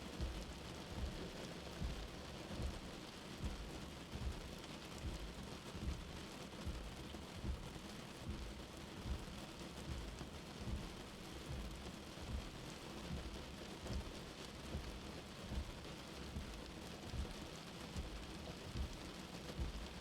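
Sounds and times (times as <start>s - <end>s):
soft low heartbeat: 0.0s - 20.0s
steady rain: 0.0s - 20.0s.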